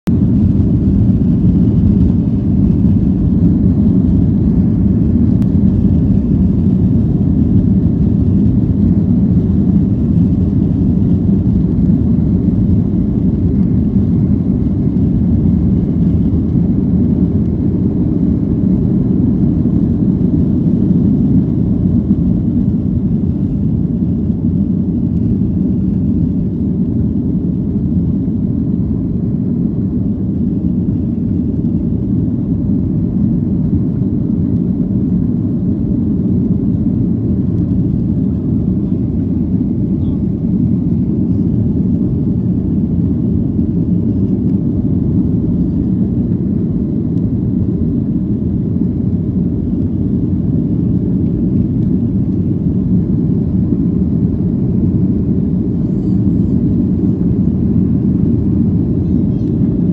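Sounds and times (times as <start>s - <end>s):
jet engines deep rumble: 0.0s - 59.9s.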